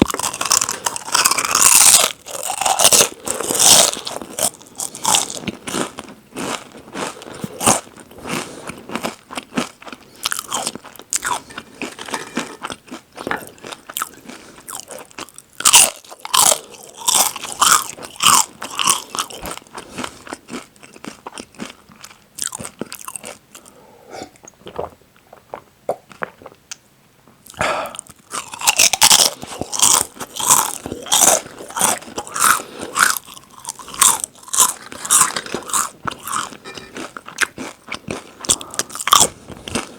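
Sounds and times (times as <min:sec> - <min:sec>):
chips crunching: 0:00.0 - 0:23.4, 0:28.3 - 0:39.9.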